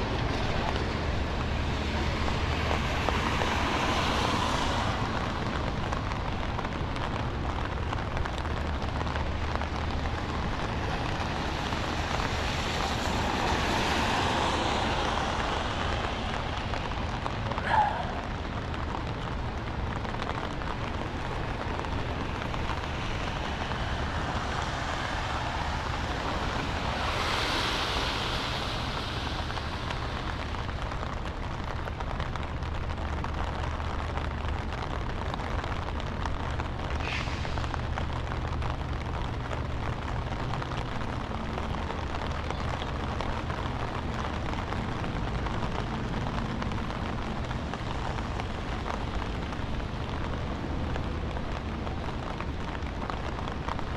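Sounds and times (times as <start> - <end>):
car tyres swishing on wet road: 0.0 - 53.9
steady rain hiss: 0.0 - 53.9.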